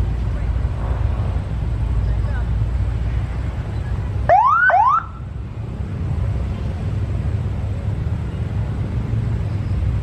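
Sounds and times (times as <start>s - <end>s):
aircraft engines rumbling: 0.0s - 10.0s.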